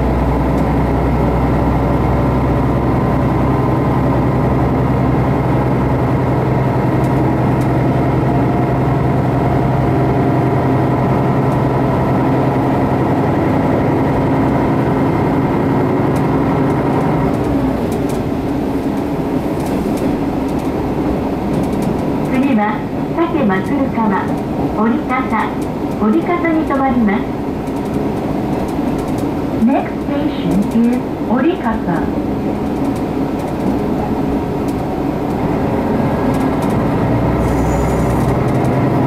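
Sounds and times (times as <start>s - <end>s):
diesel railcar engine droning: 0.0s - 39.0s
train running noise: 0.0s - 39.0s.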